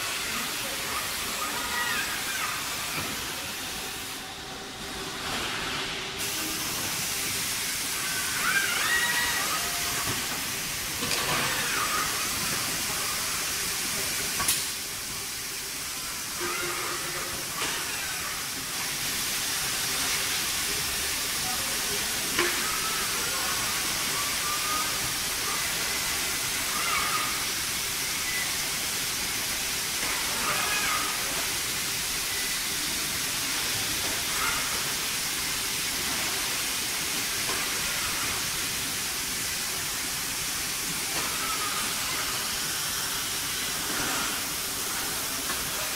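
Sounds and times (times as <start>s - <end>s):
factory machinery hiss: 0.0s - 45.9s.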